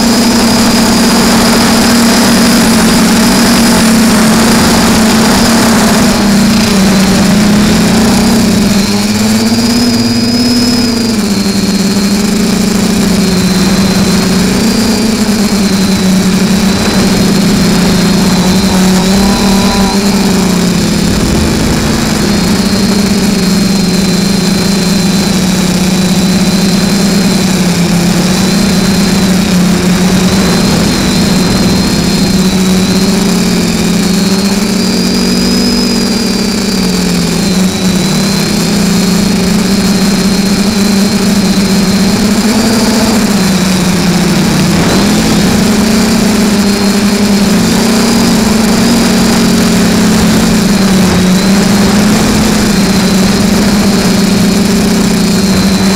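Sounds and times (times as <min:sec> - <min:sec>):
drone motors buzzing: 0:00.0 - 0:55.9
faint high whine: 0:00.0 - 0:55.9.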